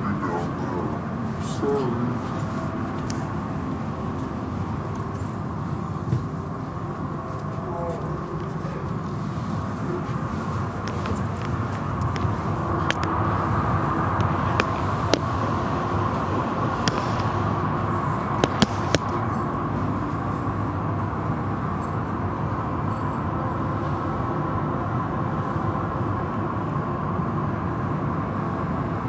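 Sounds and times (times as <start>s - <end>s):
car wash machinery and water: 0.0s - 29.0s.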